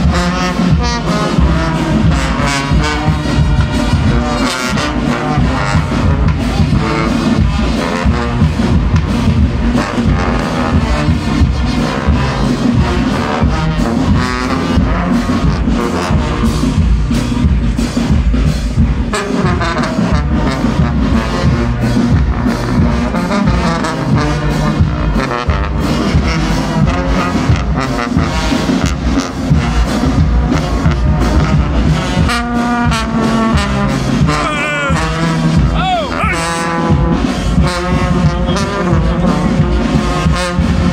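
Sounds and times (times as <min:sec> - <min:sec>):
brass band playing: 0:00.0 - 0:40.9.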